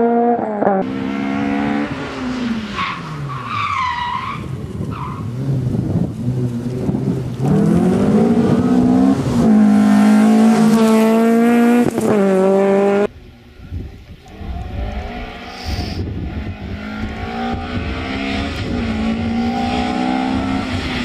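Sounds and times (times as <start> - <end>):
rally car engine braking and revving: 0.0 - 13.1, 14.3 - 21.0.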